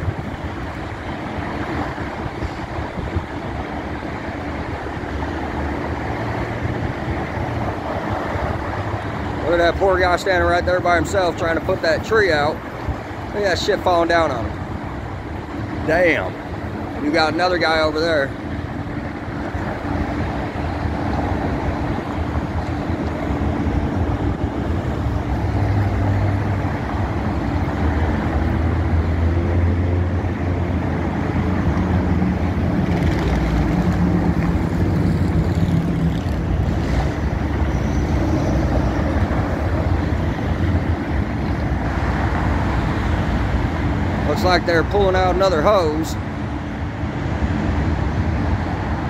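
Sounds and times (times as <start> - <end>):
car road and engine noise: 0.0 - 49.0.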